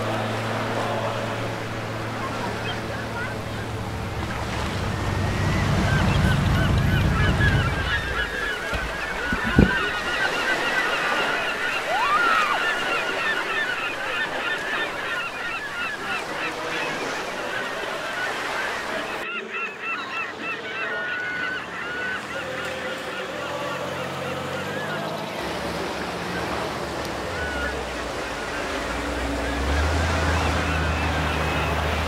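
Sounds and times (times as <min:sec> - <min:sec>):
flock of birds calling: 0:00.0 - 0:32.0
surf washing: 0:00.0 - 0:32.0.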